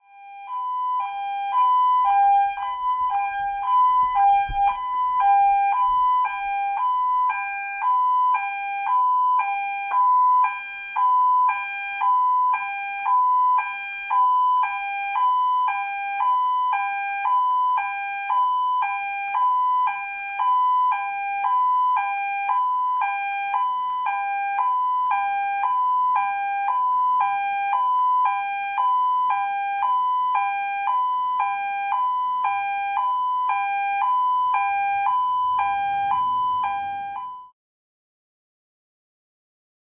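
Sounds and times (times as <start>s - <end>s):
two-tone ambulance siren: 0.0s - 37.6s.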